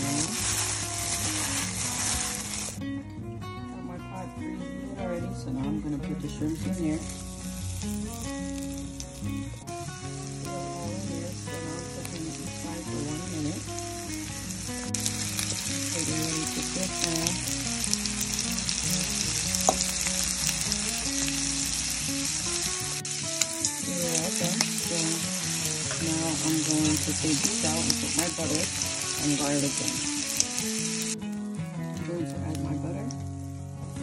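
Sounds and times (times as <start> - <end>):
shrimp sizzling in frying oil: 0.0 - 2.8, 6.2 - 31.3
background music with held notes: 0.0 - 34.0.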